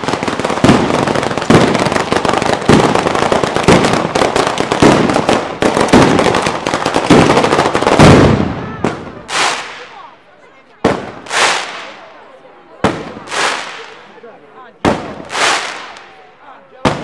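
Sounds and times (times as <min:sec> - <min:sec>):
firecracker bangs: 0:00.0 - 0:10.0, 0:10.8 - 0:12.0, 0:12.8 - 0:14.1, 0:14.8 - 0:16.2
firecrackers crackling: 0:00.0 - 0:17.0.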